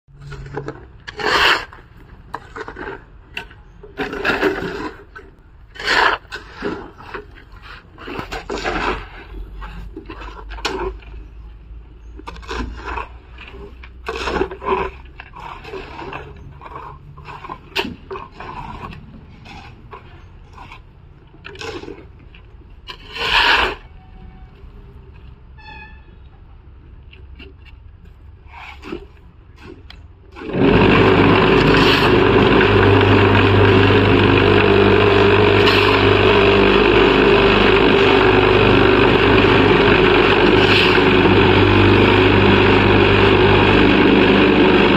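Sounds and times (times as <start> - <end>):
shovel scraping gravelly concrete: 0.1 - 24.0, 28.4 - 44.9.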